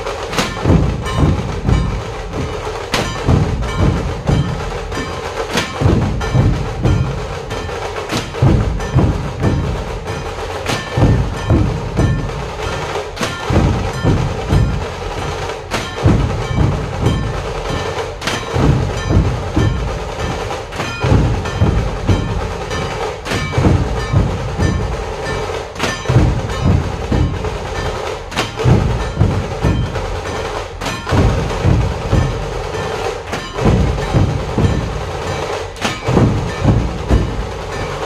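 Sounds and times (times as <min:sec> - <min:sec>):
barrel drums beating: 0:00.0 - 0:38.0
drums rattling: 0:00.0 - 0:38.0
sharp accented drum strike: 0:00.0 - 0:38.0.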